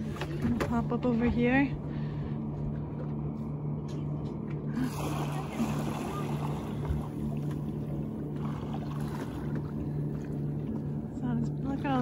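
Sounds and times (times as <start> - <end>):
boat motor idling hum: 0.0 - 12.0
churning water rush: 0.0 - 12.0.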